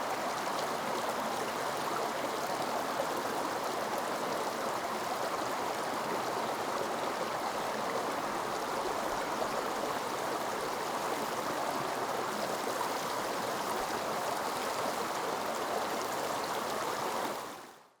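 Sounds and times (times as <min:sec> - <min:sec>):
stream water flowing: 0:00.0 - 0:17.8.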